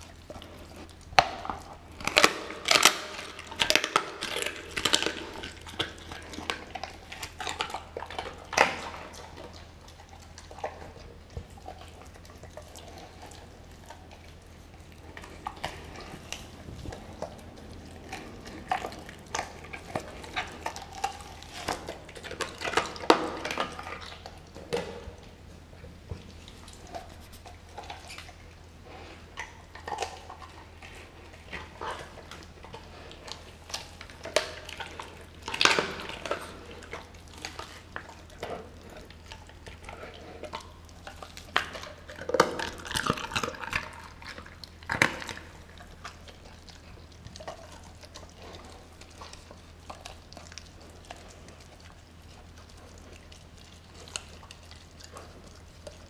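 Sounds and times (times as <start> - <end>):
bones cracking: 0.0 - 25.3, 31.4 - 56.0
dog chewing and tearing meat: 0.0 - 56.0.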